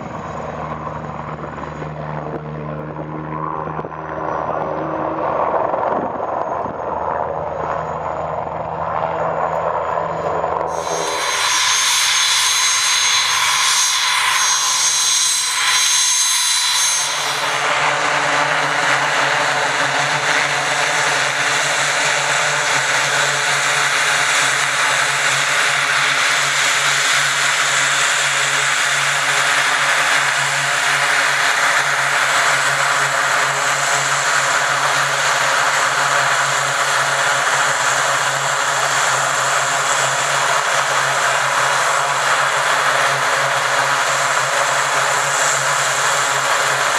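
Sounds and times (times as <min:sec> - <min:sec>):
high turbine whine: 0:00.0 - 0:46.9
turboprop engines droning: 0:00.0 - 0:46.9.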